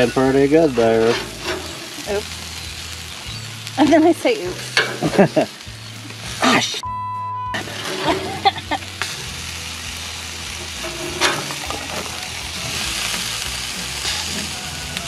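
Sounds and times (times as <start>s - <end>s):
hot dogs sizzling on grill: 0.0s - 6.8s, 7.6s - 15.0s.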